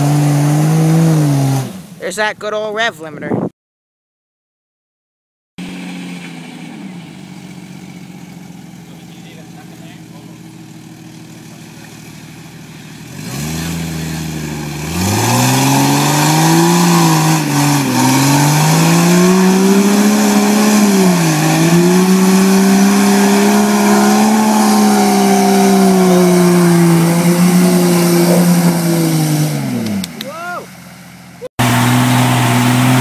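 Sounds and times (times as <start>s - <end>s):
car engine revving hard: 0.0s - 2.0s, 5.6s - 30.2s, 31.6s - 33.0s.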